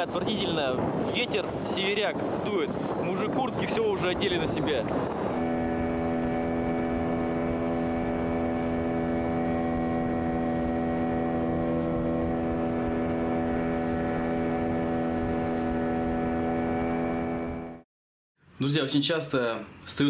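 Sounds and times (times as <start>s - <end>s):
outboard motor running: 0.9s - 17.8s.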